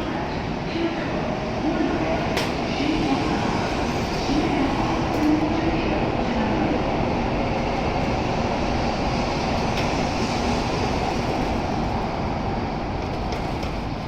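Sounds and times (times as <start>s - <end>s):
train rumble and hum: 0.0s - 14.0s.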